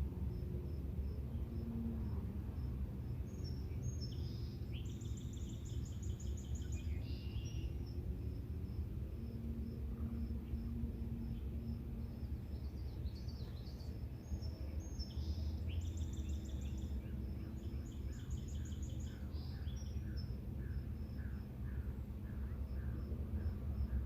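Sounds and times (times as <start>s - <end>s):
insect chirping: 0.2s - 24.0s.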